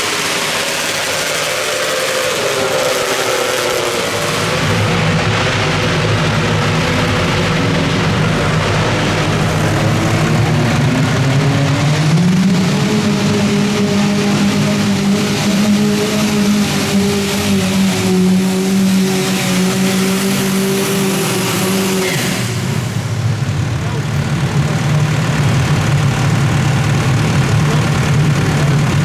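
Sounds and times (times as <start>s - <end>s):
tractor engine running at high revs: 0.0s - 29.0s.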